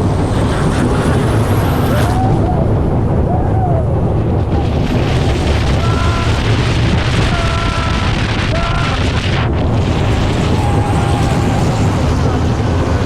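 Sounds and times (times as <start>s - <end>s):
boat engine running hard: 0.0s - 13.0s
wind buffeting microphone: 0.0s - 13.0s.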